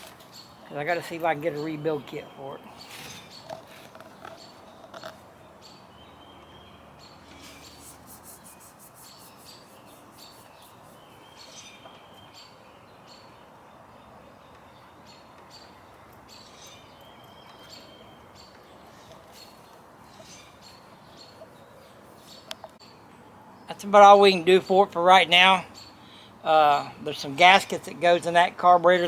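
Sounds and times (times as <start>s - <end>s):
bird trill: 0.0s - 24.8s
faint birds chirping: 0.0s - 29.0s.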